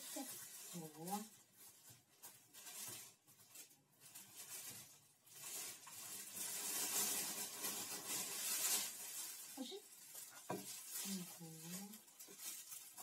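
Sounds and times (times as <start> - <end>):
corn sticks crackling in bowl: 0.0 - 13.0.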